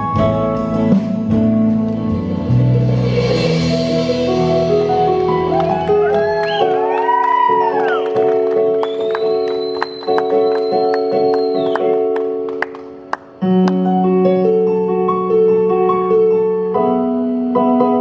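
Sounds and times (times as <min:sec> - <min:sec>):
electric keyboard piano chords: 0:00.0 - 0:18.0
gentle keyboard melody: 0:00.0 - 0:18.0.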